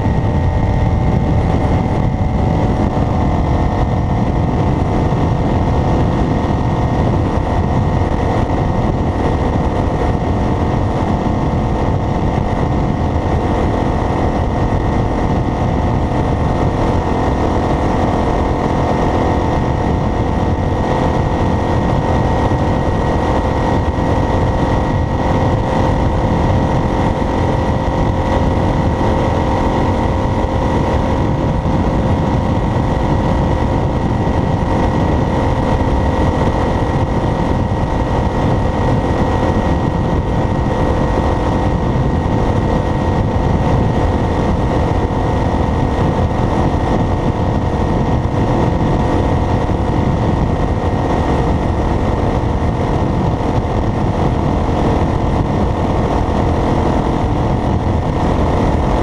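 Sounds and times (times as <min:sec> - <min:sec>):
vehicle road and engine rumble: 0:00.0 - 0:59.0.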